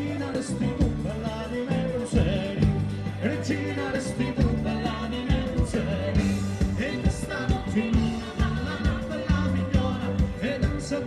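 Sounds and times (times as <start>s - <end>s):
bass line: 0.0s - 11.0s
live band playing folk dance music: 0.0s - 11.0s
person singing: 0.0s - 11.0s.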